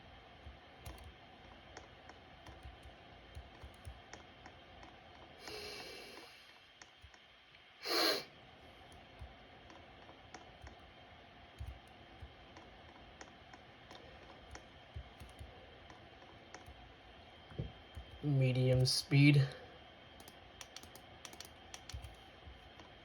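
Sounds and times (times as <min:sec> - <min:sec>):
ceiling fan humming: 0:00.0 - 0:23.0.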